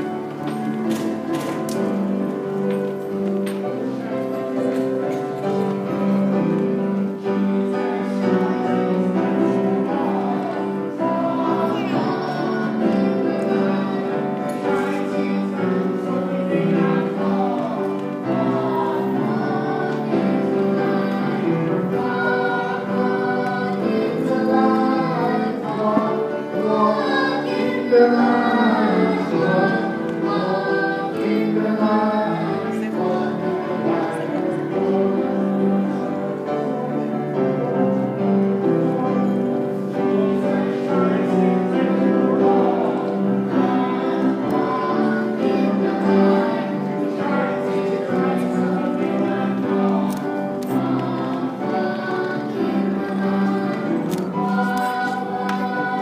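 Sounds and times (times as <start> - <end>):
choir singing a hymn: 0.0 - 56.0
held accompaniment notes: 0.0 - 56.0.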